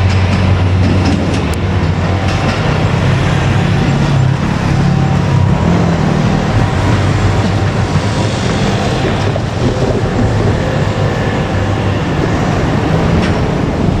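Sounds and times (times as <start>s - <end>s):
broad rushing noise: 0.0s - 14.0s
vehicle engine humming: 0.0s - 14.0s.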